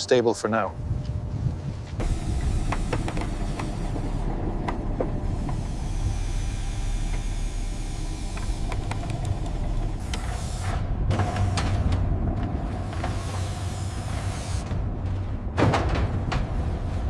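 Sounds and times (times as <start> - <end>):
faint hum: 0.1 - 17.0
low mechanical rumble: 0.7 - 17.0.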